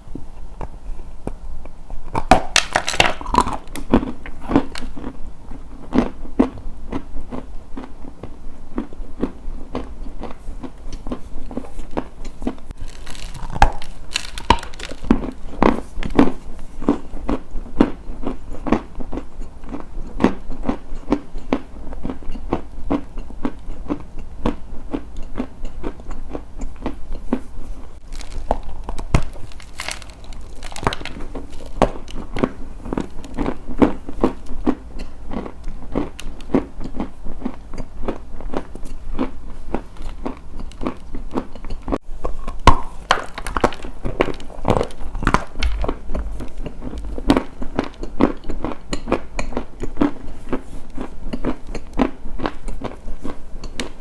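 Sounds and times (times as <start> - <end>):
close-up crunching: 0.4 - 54.0.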